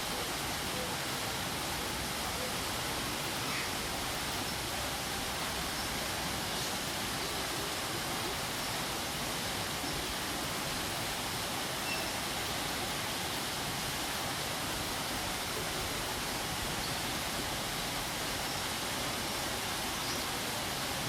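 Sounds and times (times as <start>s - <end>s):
waterfall: 0.0s - 21.0s.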